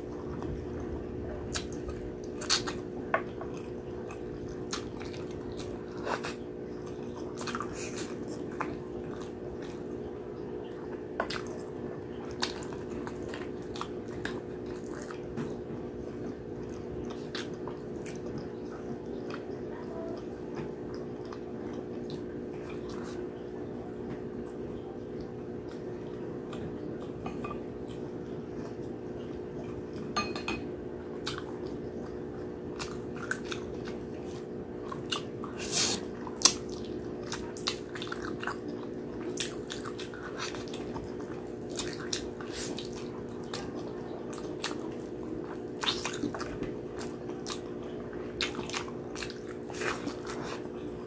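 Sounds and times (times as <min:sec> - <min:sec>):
steady low hum: 0:00.0 - 0:51.0
chewing and lip-smacking: 0:01.4 - 0:30.1, 0:31.1 - 0:51.0.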